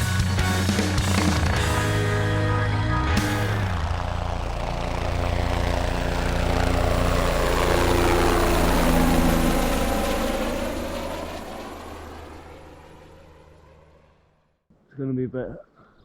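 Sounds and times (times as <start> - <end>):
engine droning: 0.0 - 14.4.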